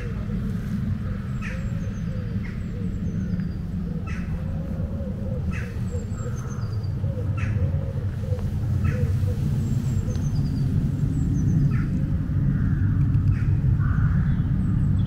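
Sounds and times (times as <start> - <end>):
low bird call: 0.0 - 15.0
small birds chirping: 0.0 - 15.0
steady low rumble: 0.0 - 15.0.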